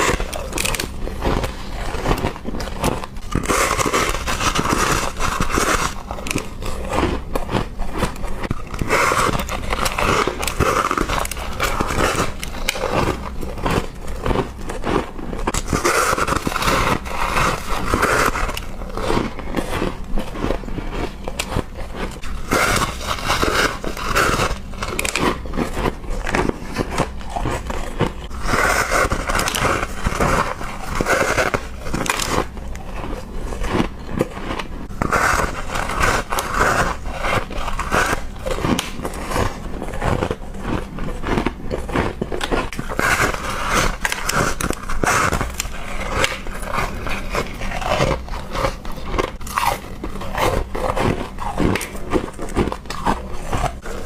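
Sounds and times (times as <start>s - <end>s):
ice crunched between teeth: 0.0s - 54.0s.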